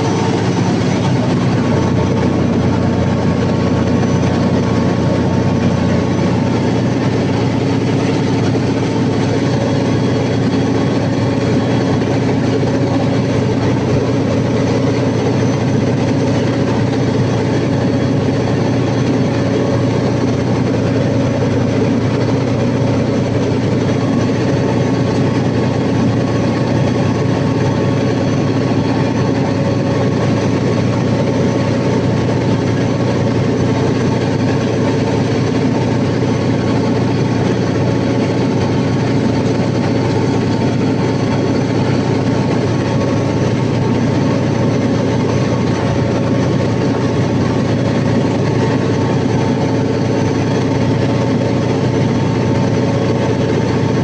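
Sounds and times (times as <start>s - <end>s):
generator engine droning: 0.0s - 54.0s.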